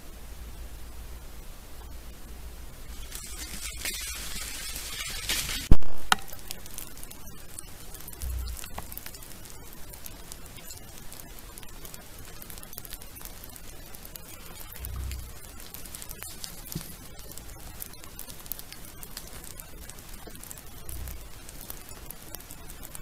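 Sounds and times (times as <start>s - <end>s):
faint hiss: 0.0s - 23.0s
rustling and crackling: 1.8s - 23.0s.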